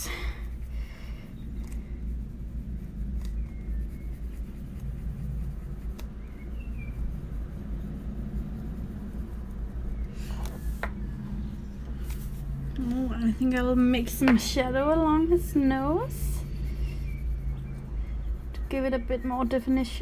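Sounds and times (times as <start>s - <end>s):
low steady hum: 0.0s - 20.0s
pencil scratching on paper: 0.1s - 20.0s.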